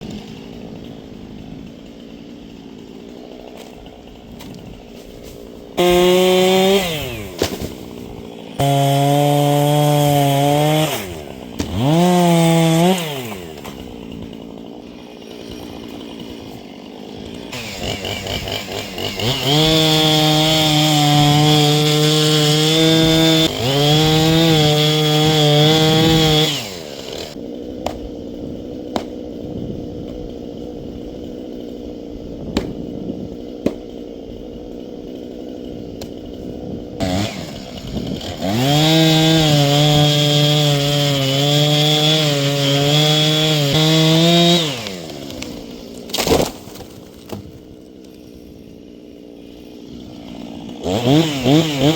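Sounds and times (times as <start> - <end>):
chainsaw revving and idling: 0.0 - 51.9.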